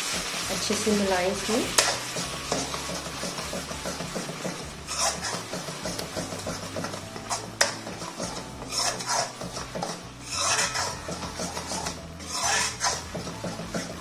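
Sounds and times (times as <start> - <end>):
spoon scraping paste in pan: 1.7 - 14.0.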